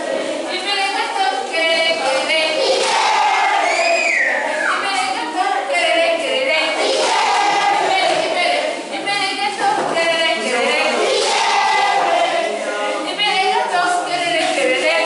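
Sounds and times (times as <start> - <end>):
children singing and chanting: 0.0 - 15.0.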